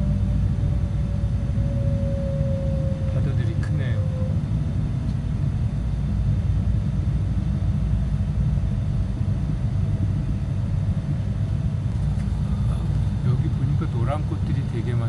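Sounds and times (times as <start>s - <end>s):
faint steady hum: 0.0s - 15.0s
train rumble inside carriage: 0.0s - 15.0s.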